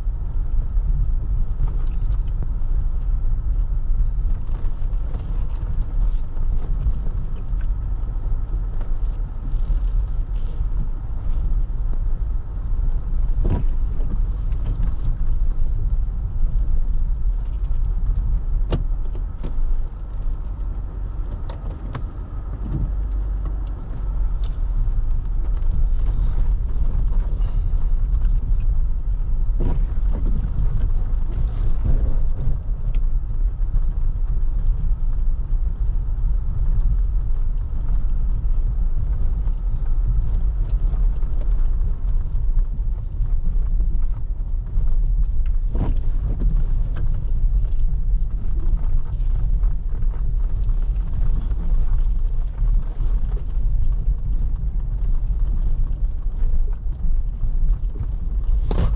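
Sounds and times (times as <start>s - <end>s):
vehicle on wet dirt road: 0.0s - 58.9s.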